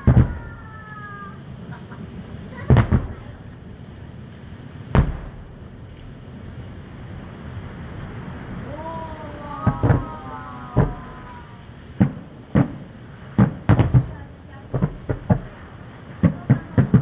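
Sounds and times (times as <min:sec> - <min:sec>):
firework whistles: 0:00.0 - 0:04.1, 0:04.7 - 0:17.0
firework bangs: 0:00.0 - 0:17.0.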